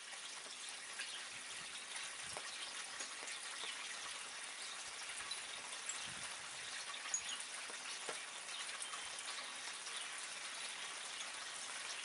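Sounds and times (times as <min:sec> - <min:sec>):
single water drips: 0:00.0 - 0:12.0
steady rain falling: 0:00.0 - 0:12.0.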